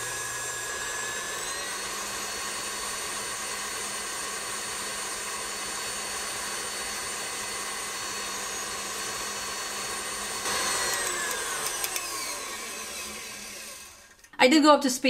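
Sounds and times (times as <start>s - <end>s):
stand mixer motor whine: 0.0s - 14.3s.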